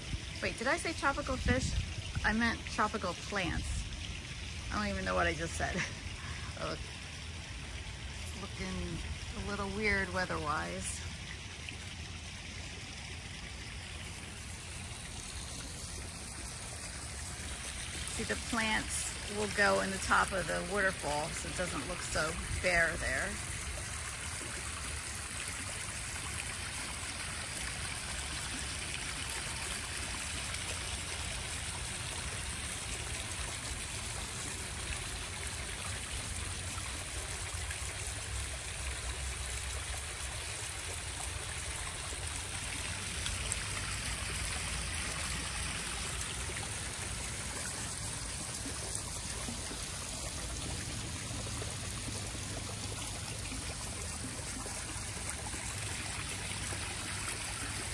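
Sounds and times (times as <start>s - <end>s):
water trickling over rocks: 0.0s - 57.9s.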